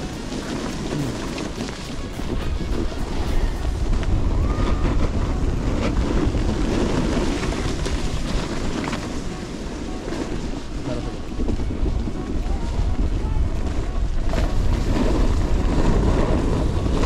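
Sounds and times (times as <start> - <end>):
snowboards sliding on snow: 0.0 - 17.0
wind buffeting microphone: 0.0 - 17.0.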